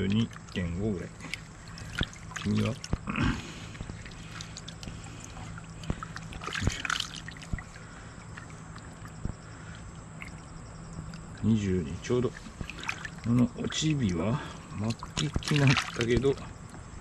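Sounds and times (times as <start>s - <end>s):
fish splashing: 0.0s - 16.8s
water trickling and sloshing: 0.0s - 17.0s.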